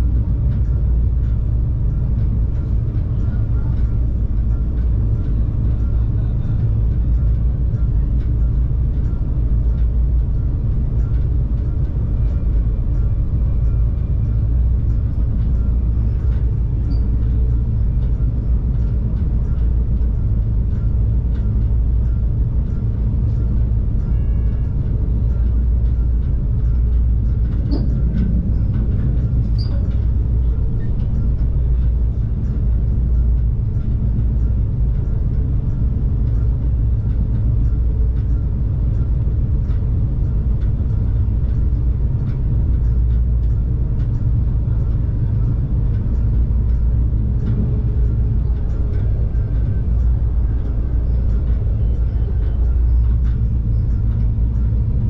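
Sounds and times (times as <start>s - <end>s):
train rumbling in motion: 0.0s - 55.0s.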